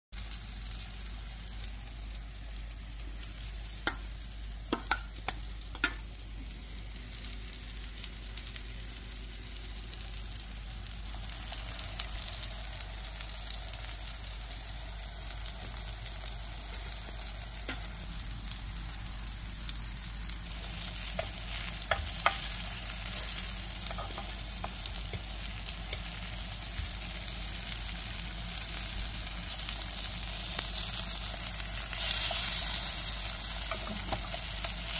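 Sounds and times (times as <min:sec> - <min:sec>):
food sizzling in hot oil: 0:00.2 - 0:34.9.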